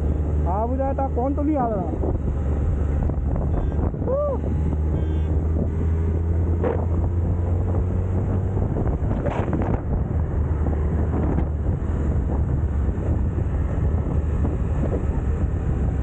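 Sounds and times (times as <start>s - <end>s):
motorcycle engine drone: 0.0s - 16.0s
wind buffeting microphone: 1.1s - 16.0s.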